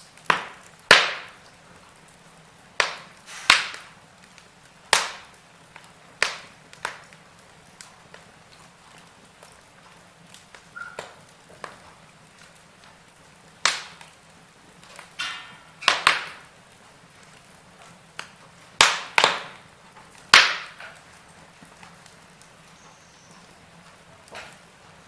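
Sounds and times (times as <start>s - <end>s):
faint steady hiss: 0.0s - 25.0s
logs popping in fire: 0.0s - 25.0s.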